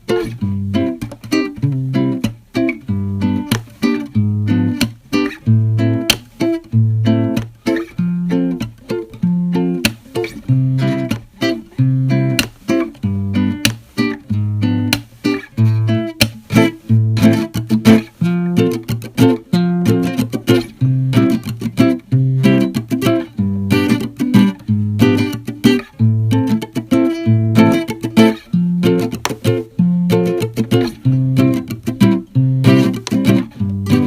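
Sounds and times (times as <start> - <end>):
plucked acoustic guitar: 0.0 - 34.0.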